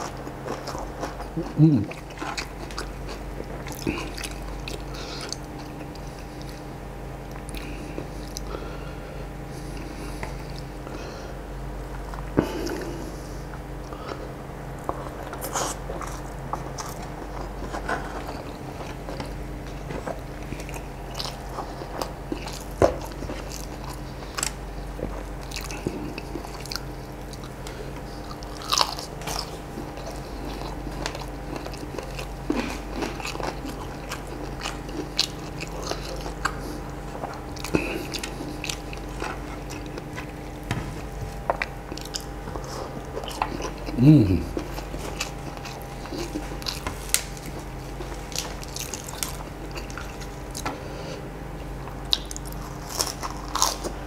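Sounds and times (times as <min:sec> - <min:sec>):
chewing and mouth sounds: 0:00.0 - 0:06.7, 0:07.3 - 0:08.6, 0:11.8 - 0:51.2, 0:51.9 - 0:54.0
steady low hum: 0:00.0 - 0:54.0.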